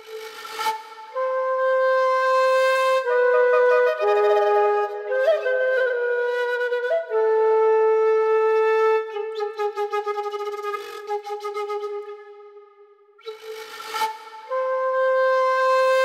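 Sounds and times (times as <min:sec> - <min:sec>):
slow wind instrument melody: 0:00.0 - 0:16.0.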